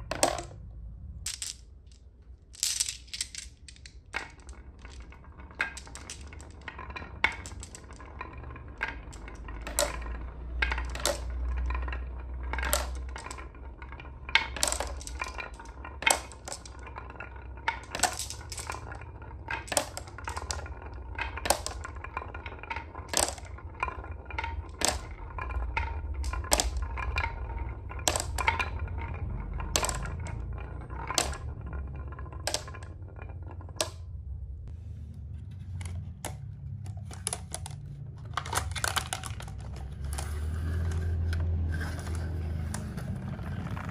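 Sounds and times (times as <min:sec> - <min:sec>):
marbles clinking into toy truck: 0:00.0 - 0:34.2, 0:35.8 - 0:43.9
marbles rolling on wooden track: 0:00.0 - 0:34.7, 0:35.6 - 0:43.9.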